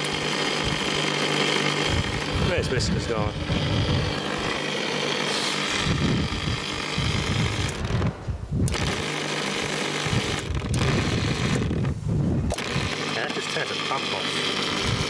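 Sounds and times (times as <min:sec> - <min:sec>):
machine rattling buzz: 0:00.0 - 0:15.0
steady low hum: 0:00.0 - 0:15.0.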